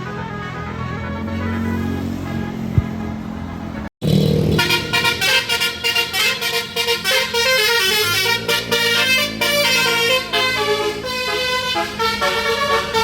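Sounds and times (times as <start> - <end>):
musical loudspeaker horn melody: 0.0 - 3.8, 4.5 - 13.0
bus engine hum: 0.0 - 3.9, 4.5 - 13.0.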